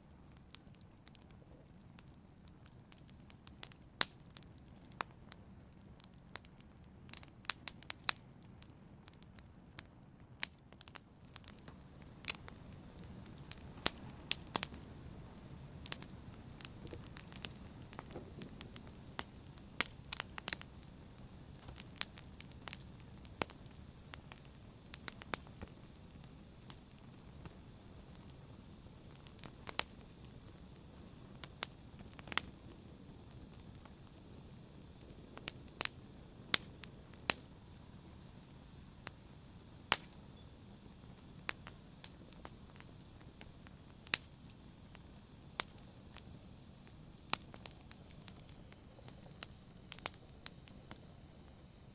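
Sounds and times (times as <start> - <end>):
low hiss of flames: 0.0 - 51.9
wood fire crackling and popping: 0.0 - 51.9.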